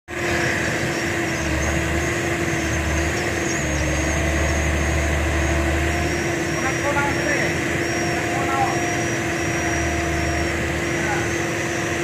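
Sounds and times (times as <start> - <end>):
excavator diesel engine running: 0.1 - 12.0.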